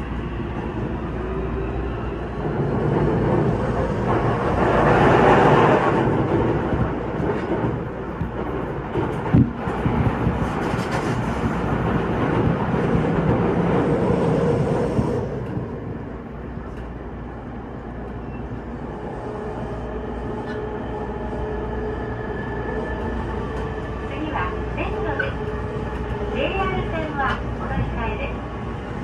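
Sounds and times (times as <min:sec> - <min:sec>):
passing train rushing: 0:00.0 - 0:29.0
train running noise: 0:00.0 - 0:29.0.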